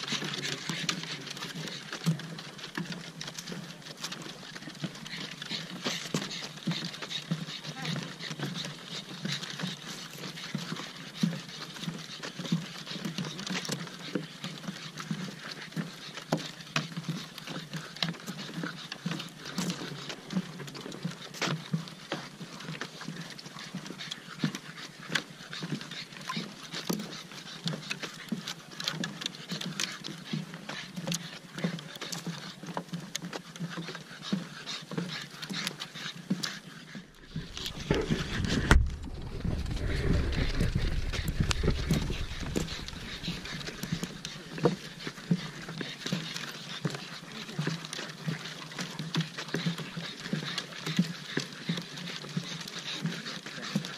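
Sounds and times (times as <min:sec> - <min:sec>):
dogs panting: 0:00.0 - 0:53.9
footsteps on wooden boardwalk: 0:00.1 - 0:47.1.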